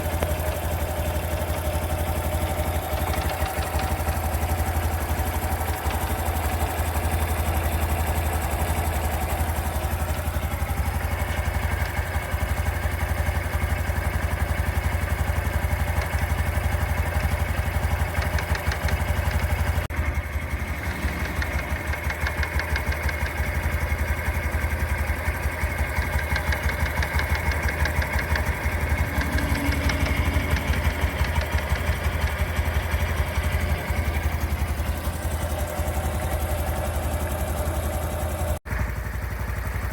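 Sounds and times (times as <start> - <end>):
fine rapid ticking: 0.0 - 38.6
motorcycle engine idling: 0.0 - 39.9.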